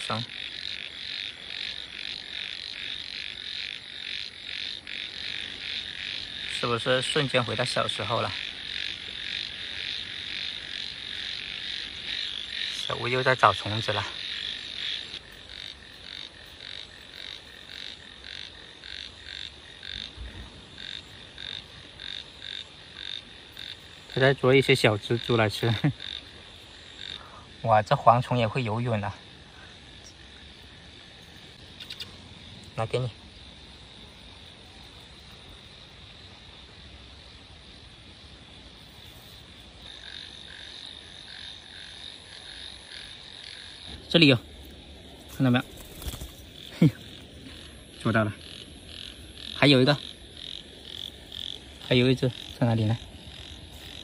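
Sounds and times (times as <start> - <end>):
frogs croaking: 0.0 - 54.0.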